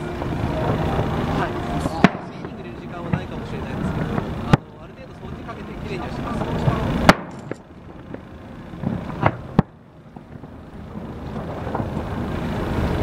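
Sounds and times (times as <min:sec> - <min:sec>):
distant fireworks bangs: 0:00.0 - 0:13.0
steady low rumble: 0:00.0 - 0:13.0.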